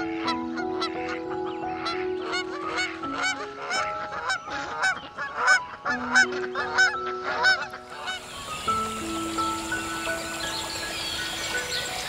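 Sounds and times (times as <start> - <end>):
ducks whistling: 0.0 - 12.0
soft background music: 0.0 - 12.0.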